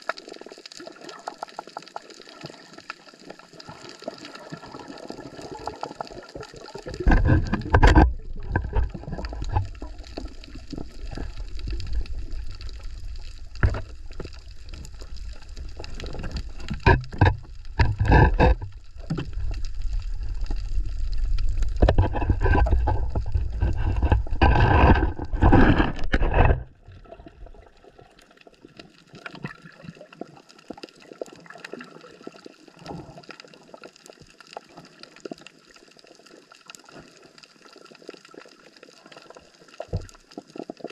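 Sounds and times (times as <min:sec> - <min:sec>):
water gurgling and trickling: 0:00.0 - 0:40.9
water splashing and sloshing: 0:00.0 - 0:40.9.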